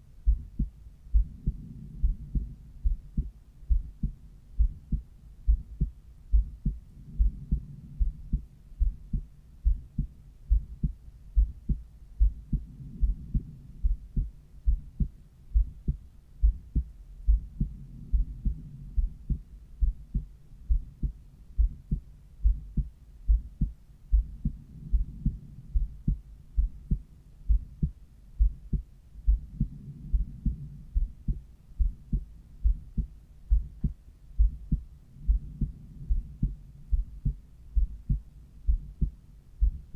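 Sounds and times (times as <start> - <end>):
heartbeat lub-dub: 0.0 - 39.9
soft low rush: 0.0 - 39.9.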